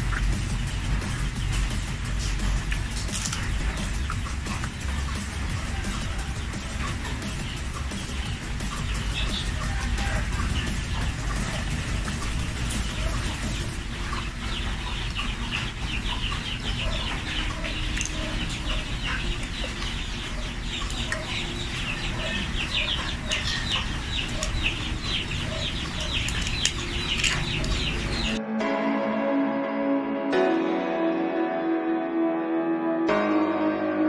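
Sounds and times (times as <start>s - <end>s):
birds chirping: 0.0s - 28.4s.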